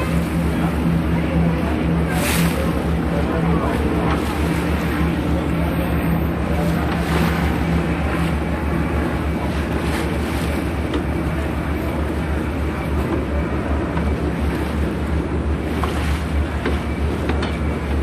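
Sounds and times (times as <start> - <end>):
low engine hum: 0.0 - 18.0
sea water rushing: 0.0 - 18.0.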